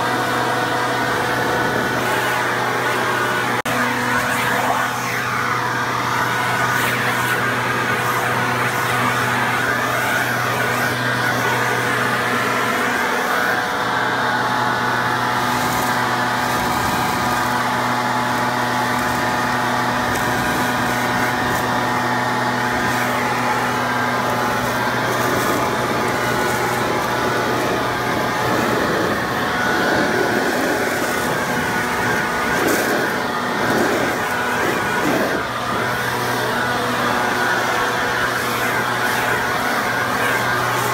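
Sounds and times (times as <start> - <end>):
air rushing from blower tube: 0.0 - 40.9
leaf blower engine running: 0.0 - 40.9.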